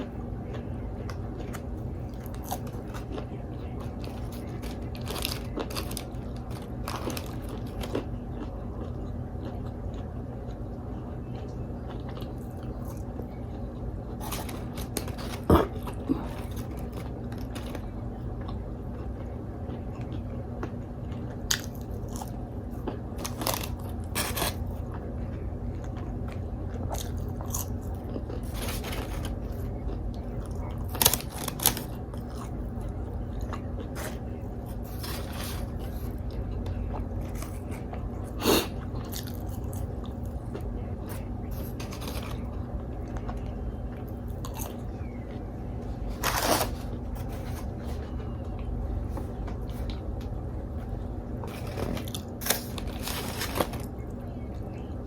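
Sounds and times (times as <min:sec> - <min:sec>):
close chewing and crunching: 0:00.0 - 0:55.0
low hum: 0:00.0 - 0:55.0.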